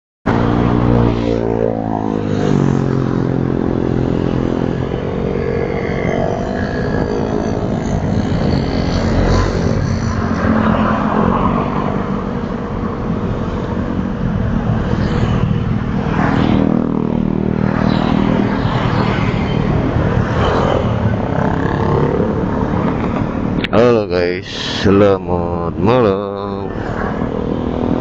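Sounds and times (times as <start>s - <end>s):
vehicles rushing past: 0.3s - 28.0s.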